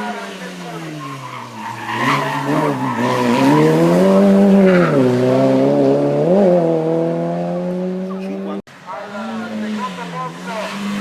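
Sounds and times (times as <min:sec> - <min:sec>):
race car engine accelerating: 0:00.0 - 0:11.0.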